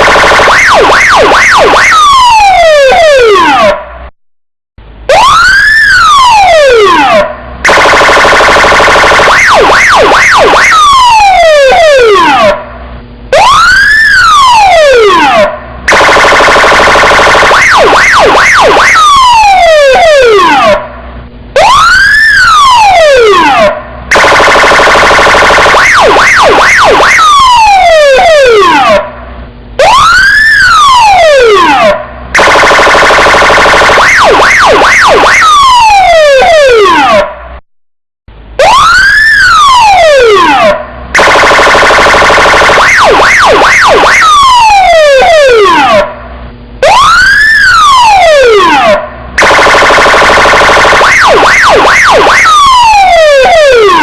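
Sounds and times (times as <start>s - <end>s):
police siren wailing and yelping: 0.0s - 3.8s, 5.1s - 12.7s, 13.3s - 21.0s, 21.6s - 29.2s, 29.8s - 37.4s, 38.6s - 54.0s.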